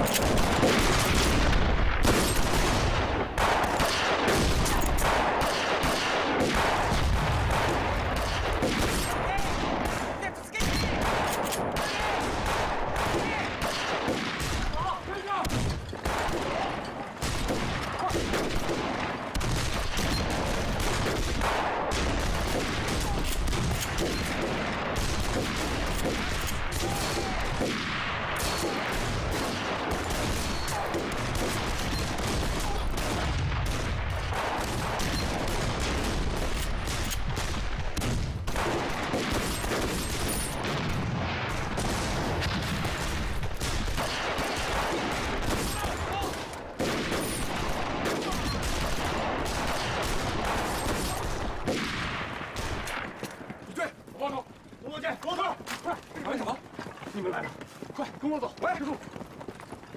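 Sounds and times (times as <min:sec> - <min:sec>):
heavy rifle gunfire: 0:00.0 - 0:53.5.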